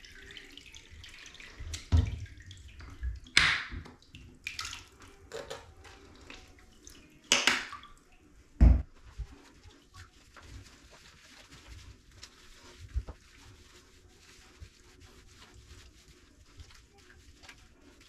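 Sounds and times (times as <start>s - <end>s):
water splashing in a bathtub: 0.0s - 18.0s.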